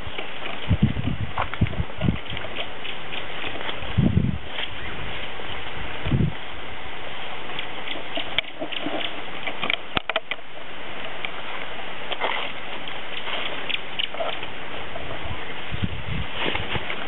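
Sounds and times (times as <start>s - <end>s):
rustling vegetation: 0.0s - 17.0s
wind: 0.0s - 17.0s.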